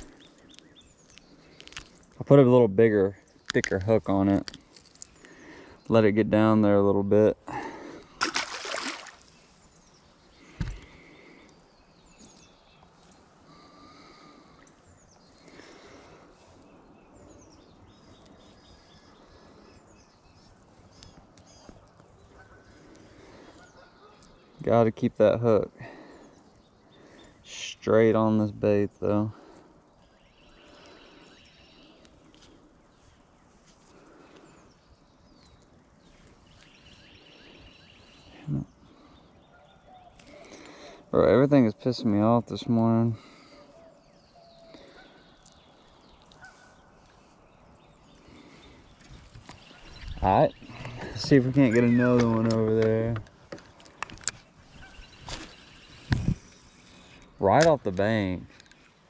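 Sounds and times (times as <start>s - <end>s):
birds chirping faintly: 0.0s - 59.0s
chattering bird song: 0.0s - 59.0s.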